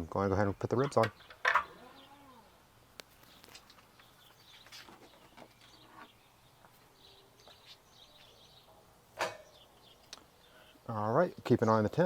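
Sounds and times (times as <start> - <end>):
distant bird chirps: 0.4 - 11.9.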